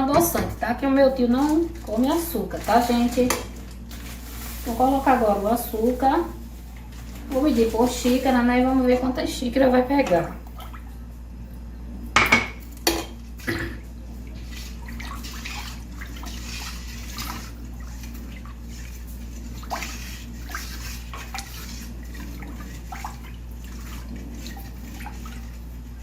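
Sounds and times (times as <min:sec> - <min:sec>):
liquid sloshing and splashing: 0:00.0 - 0:11.2, 0:13.2 - 0:26.0.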